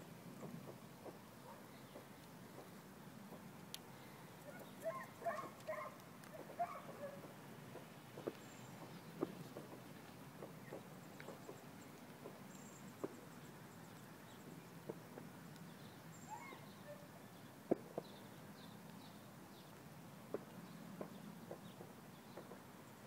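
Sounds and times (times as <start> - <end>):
small birds chirping: 0.3 - 19.8, 20.4 - 23.0.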